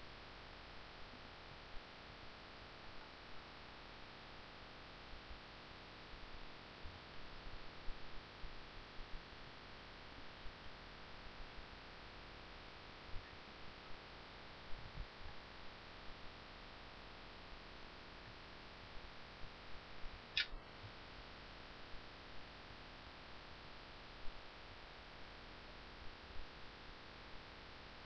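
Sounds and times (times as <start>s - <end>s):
microphone hiss and hum: 0.0s - 28.0s.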